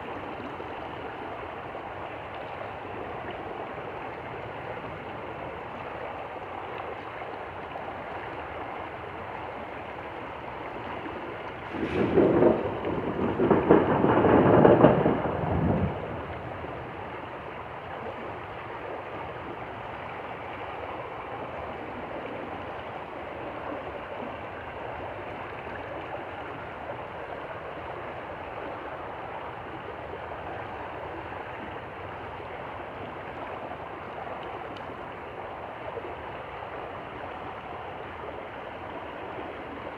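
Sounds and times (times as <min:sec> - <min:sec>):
stream flowing: 0:00.0 - 0:13.6, 0:15.1 - 0:39.9.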